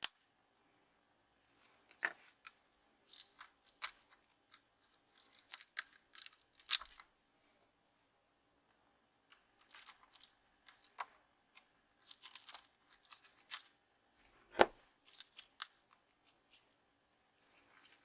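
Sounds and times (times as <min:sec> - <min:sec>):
clicks and scrapes of hobby work: 0:00.0 - 0:07.1, 0:09.3 - 0:13.8, 0:14.4 - 0:18.0.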